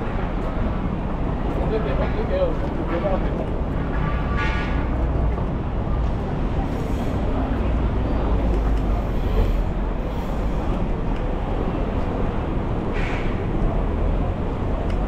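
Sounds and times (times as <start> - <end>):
city street rumble: 0.0 - 15.0.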